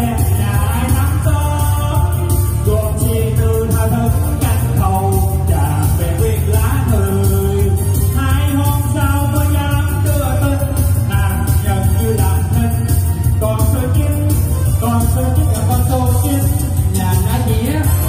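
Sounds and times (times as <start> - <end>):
backing track with heavy bass: 0.0 - 18.0
man singing into a microphone: 0.0 - 18.0.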